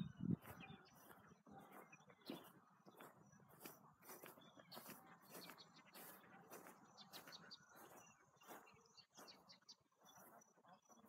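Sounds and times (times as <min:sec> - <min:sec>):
faint flock of birds chirping: 0:00.0 - 0:11.0.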